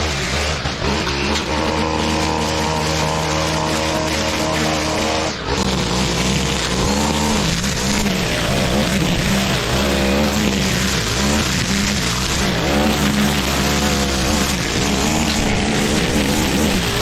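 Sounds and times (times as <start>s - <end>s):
lawn mower engine under load: 0.0s - 17.0s.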